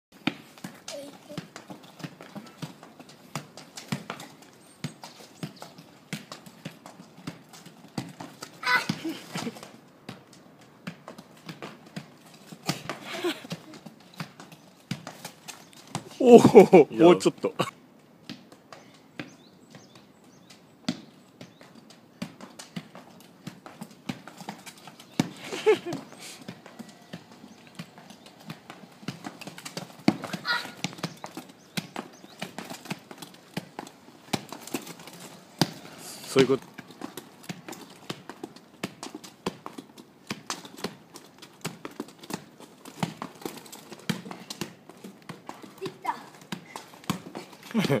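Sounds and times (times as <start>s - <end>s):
footsteps on pavement: 0.1s - 48.0s
ball bouncing on asphalt: 0.2s - 16.8s, 17.9s - 48.0s.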